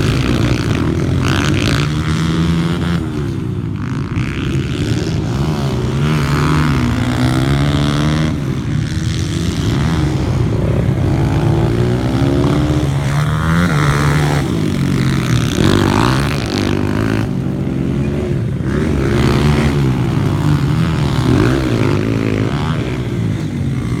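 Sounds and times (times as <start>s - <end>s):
pit bike engines revving: 0.0s - 24.0s.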